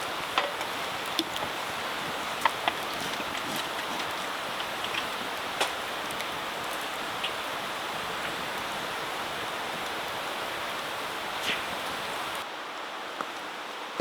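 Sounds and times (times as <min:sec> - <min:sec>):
fire crackles and pops: 0:00.0 - 0:12.4
campfire hissing: 0:00.0 - 0:12.5.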